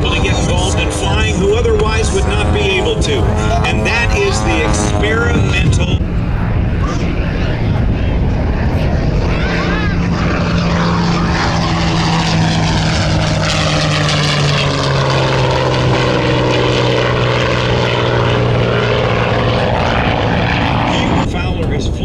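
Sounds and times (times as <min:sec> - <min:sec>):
propeller airplane flying past: 0:00.0 - 0:22.0.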